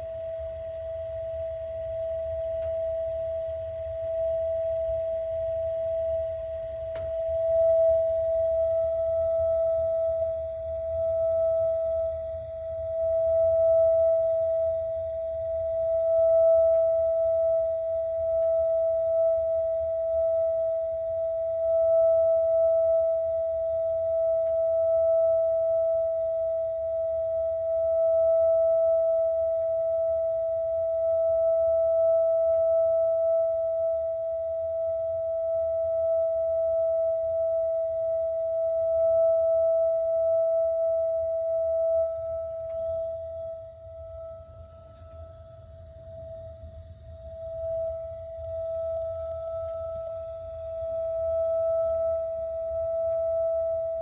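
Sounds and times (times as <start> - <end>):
water heater high-pitched whine: 0.0 - 54.0.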